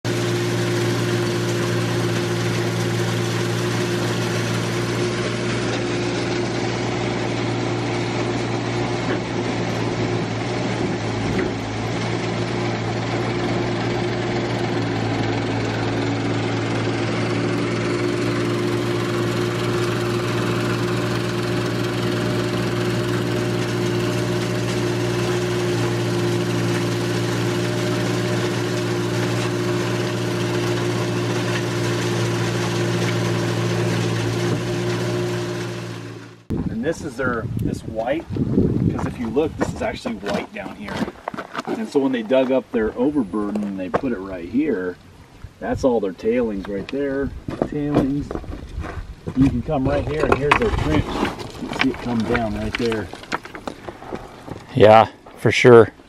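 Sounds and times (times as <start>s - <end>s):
engine humming steadily: 0.0s - 56.0s.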